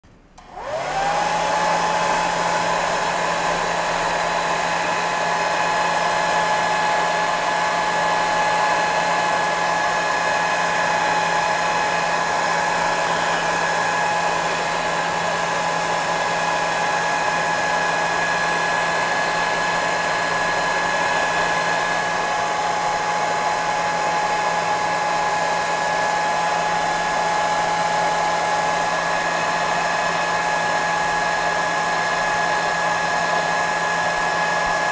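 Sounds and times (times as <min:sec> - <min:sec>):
heat gun fan whining: 0:00.2 - 0:34.9.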